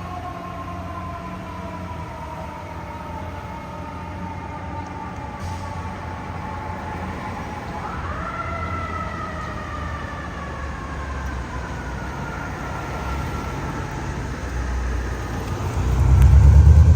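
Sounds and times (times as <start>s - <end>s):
fire truck siren wailing: 0.0s - 16.9s
truck engines rumbling: 0.0s - 16.9s.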